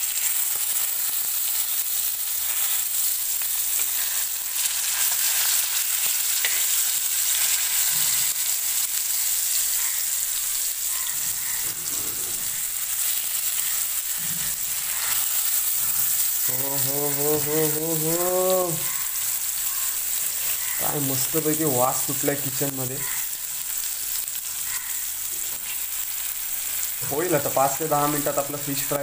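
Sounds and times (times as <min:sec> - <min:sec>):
fish sizzling in oil: 0:00.0 - 0:29.0.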